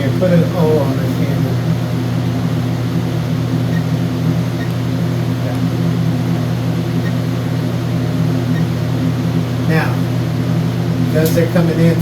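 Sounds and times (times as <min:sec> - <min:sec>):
equipment humming: 0:00.0 - 0:12.0.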